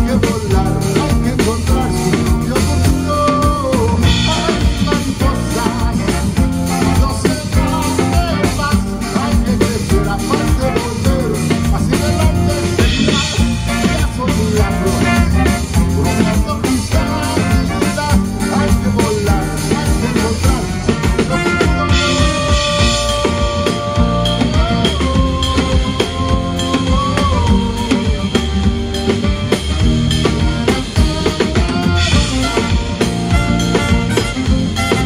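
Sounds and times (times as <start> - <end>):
drum kit beat: 0.0 - 35.0.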